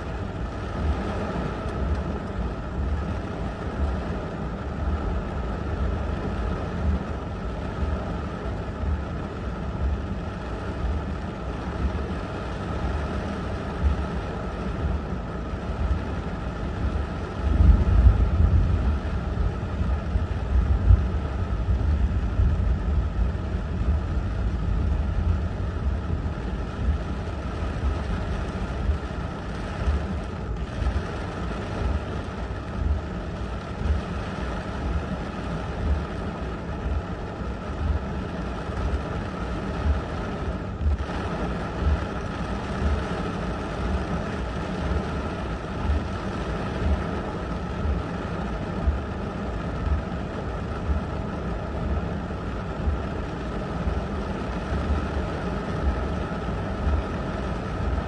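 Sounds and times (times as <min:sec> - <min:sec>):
constant low rumble: 0:00.0 - 0:58.0
gusting wind: 0:00.0 - 0:58.0
heavy rain on car roof: 0:00.0 - 0:58.0.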